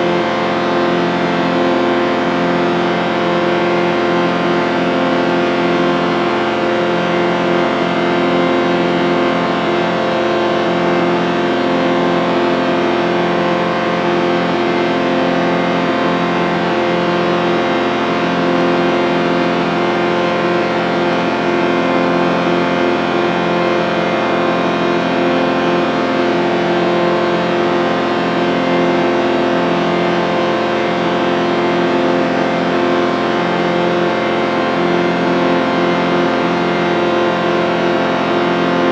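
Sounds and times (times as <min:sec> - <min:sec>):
sustained chord drone: 0:00.0 - 0:38.9.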